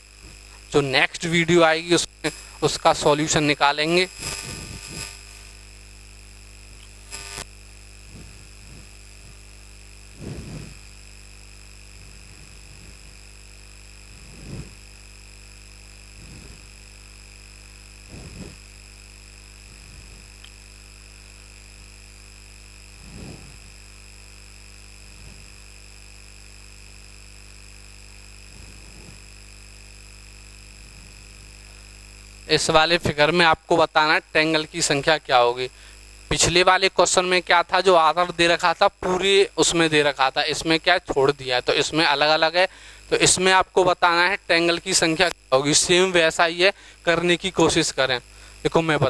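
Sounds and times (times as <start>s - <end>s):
steady background hum: 0.0s - 49.0s.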